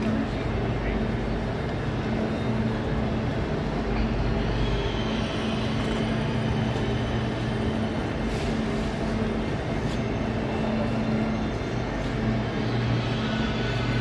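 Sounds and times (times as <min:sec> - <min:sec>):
passengers moving about: 0:00.0 - 0:14.0.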